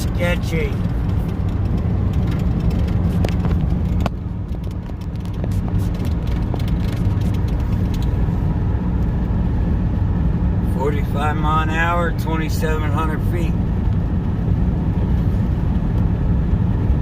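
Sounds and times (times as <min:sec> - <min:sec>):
diesel engine low drone: 0:00.0 - 0:17.0
road and tyre noise: 0:00.0 - 0:17.0.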